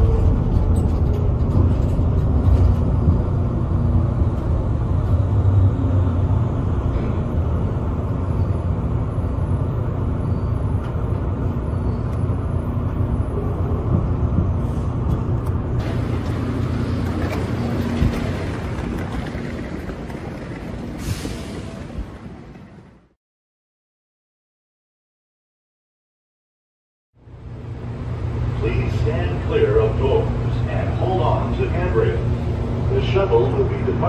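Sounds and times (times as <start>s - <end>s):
shuttle train low rumble: 0.0s - 23.2s, 27.2s - 34.0s.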